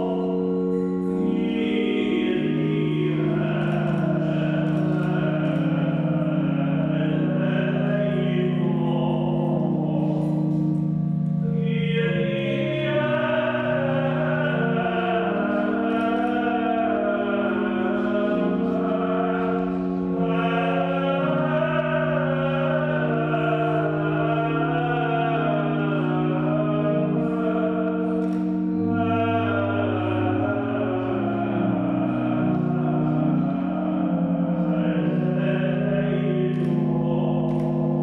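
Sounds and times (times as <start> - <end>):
man singing chant: 0.0 - 10.6, 11.4 - 38.0
organ chords: 0.0 - 38.0.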